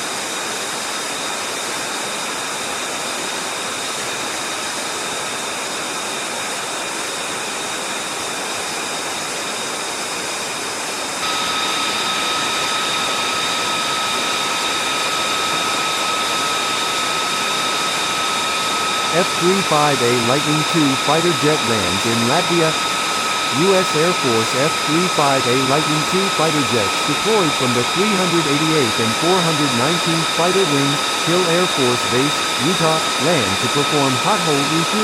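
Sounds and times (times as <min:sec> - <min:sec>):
jet engine with turbine whine: 0:00.0 - 0:35.0.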